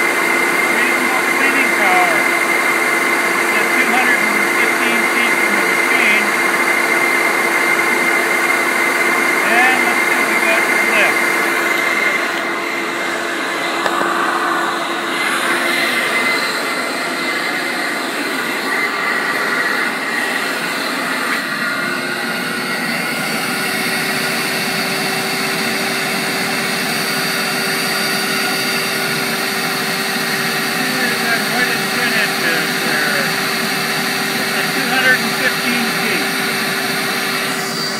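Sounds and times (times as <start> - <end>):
vacuum motors rushing whine: 0.0 - 37.9.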